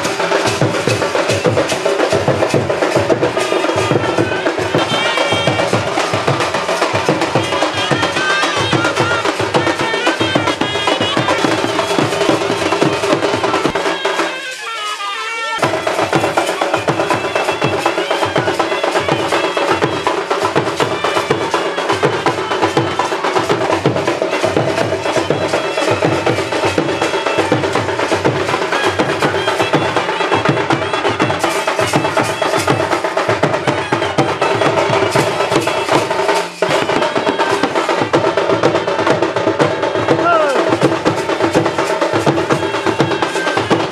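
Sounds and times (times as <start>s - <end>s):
loud music with drumming: 0.0s - 14.9s, 15.5s - 43.9s.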